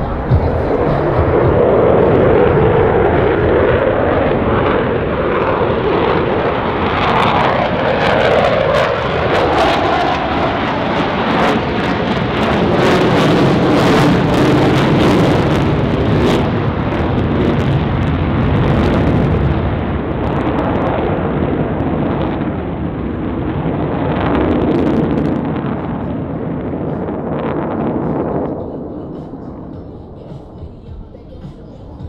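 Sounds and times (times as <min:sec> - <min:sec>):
aircraft engine roar: 0:00.0 - 0:32.0.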